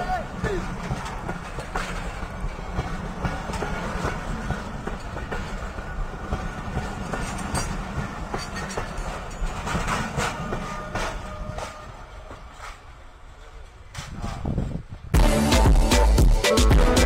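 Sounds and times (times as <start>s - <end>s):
wheels clicking over rail joints: 0.0s - 15.1s
passenger train passing: 0.0s - 17.0s.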